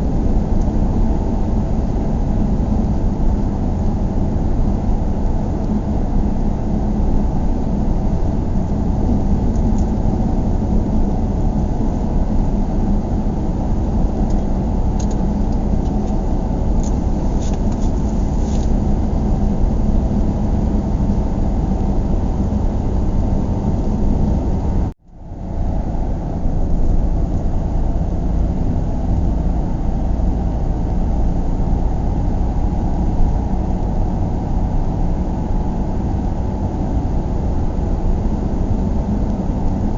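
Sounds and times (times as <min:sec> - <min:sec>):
road and engine noise in car: 0:00.0 - 0:39.9.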